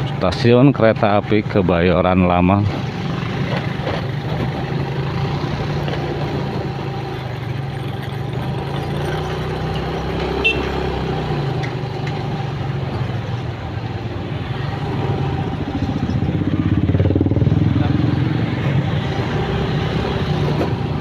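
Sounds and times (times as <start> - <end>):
van engines: 0.0 - 21.0
motorcycle engine running: 2.7 - 21.0.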